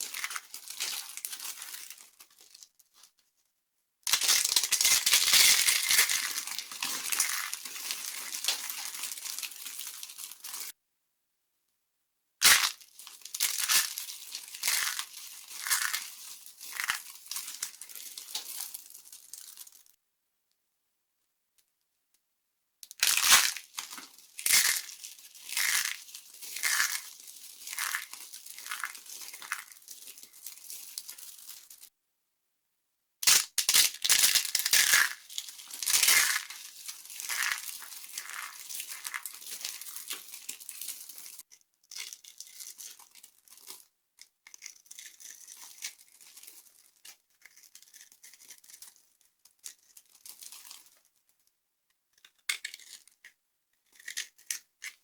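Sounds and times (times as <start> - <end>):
dry soap crackling and crunching: 0.0 - 3.2, 4.1 - 10.8, 12.4 - 20.0, 22.8 - 31.9, 33.2 - 55.0.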